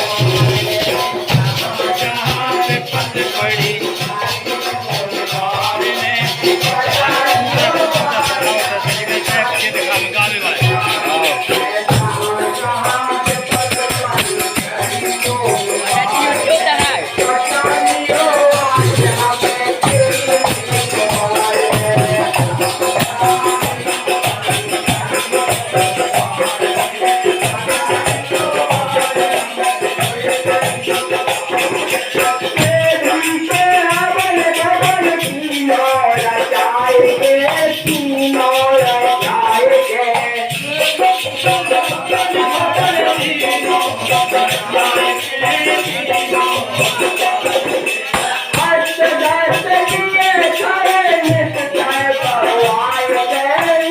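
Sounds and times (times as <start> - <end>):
rattling hand percussion: 0.0 - 53.9
wavering devotional melody: 0.0 - 53.9.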